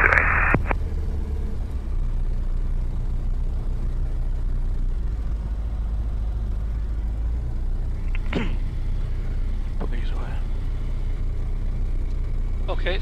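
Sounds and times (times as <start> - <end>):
aircraft piston engine idling: 1.9 - 13.0.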